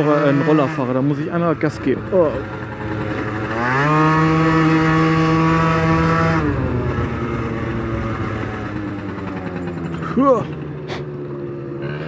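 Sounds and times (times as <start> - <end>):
scooter engine revving: 0.0 - 12.0.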